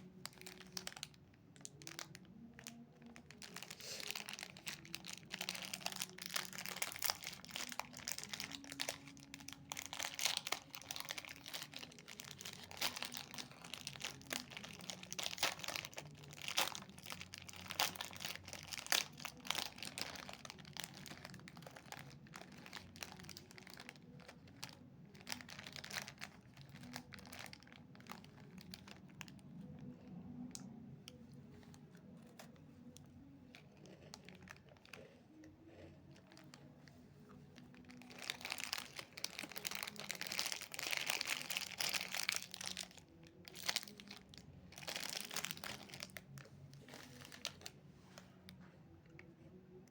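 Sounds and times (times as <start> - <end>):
snack wrappers crinkling: 0.0 - 30.7, 32.1 - 47.8.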